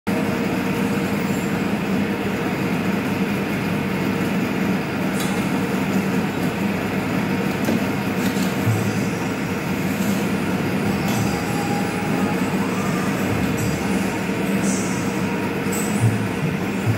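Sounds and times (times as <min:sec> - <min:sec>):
pipe-bending machine humming: 0:00.1 - 0:16.9.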